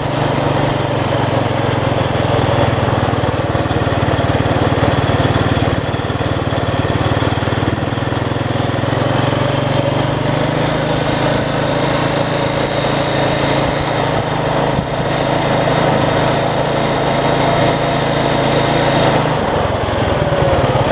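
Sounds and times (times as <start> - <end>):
atv engine running: 0.0 - 20.9.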